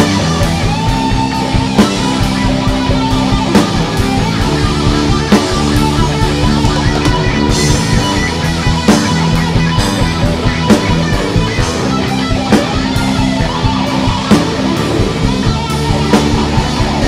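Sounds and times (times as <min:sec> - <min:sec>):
drum kit steady beat: 0:00.0 - 0:17.0
electric guitar holding notes: 0:00.0 - 0:17.0.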